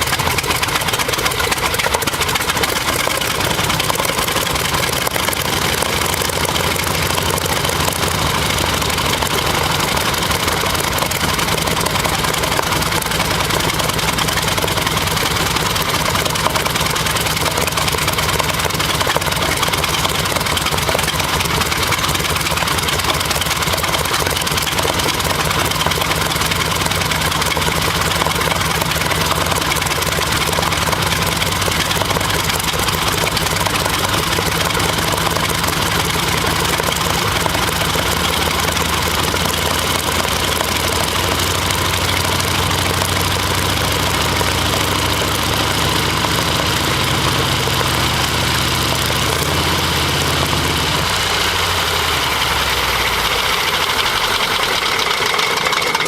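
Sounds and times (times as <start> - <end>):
large engine running: 0.0 - 56.0.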